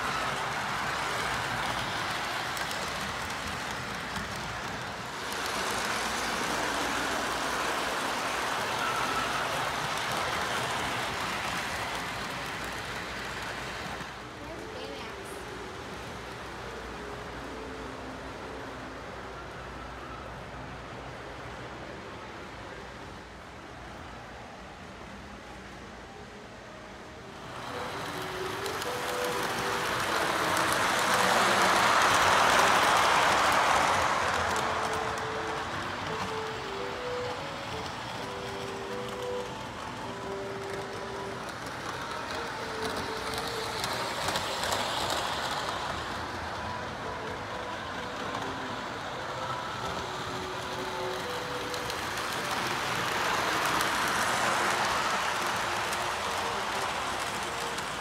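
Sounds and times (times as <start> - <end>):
model train wheels rumbling: 0.0 - 17.6, 27.4 - 58.0.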